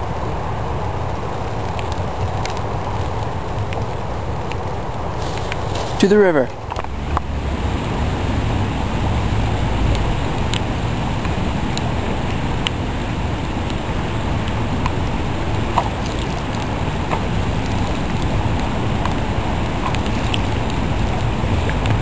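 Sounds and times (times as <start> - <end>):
rain rushing noise: 0.0 - 22.0.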